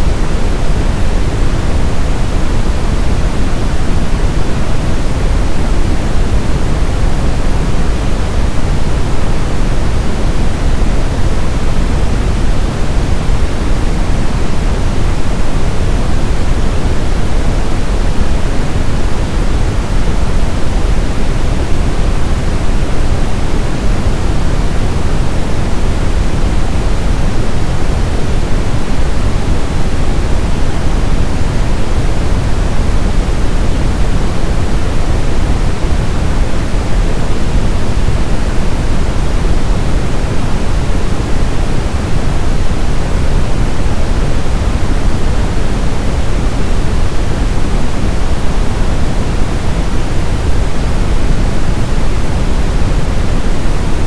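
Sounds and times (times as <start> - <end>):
brown noise: 0.0 - 54.0.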